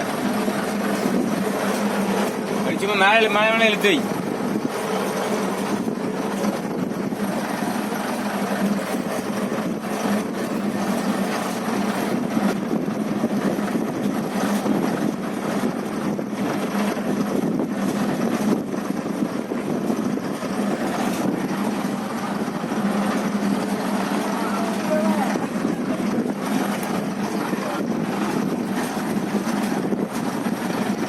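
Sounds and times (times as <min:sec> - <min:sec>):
boat engine humming: 0:00.0 - 0:31.0.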